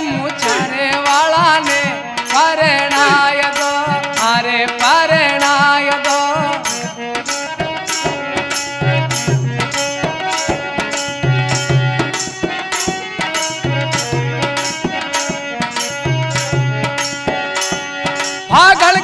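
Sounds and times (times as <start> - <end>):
drums keeping steady beat: 0.0 - 19.0
held melody line: 0.0 - 19.0.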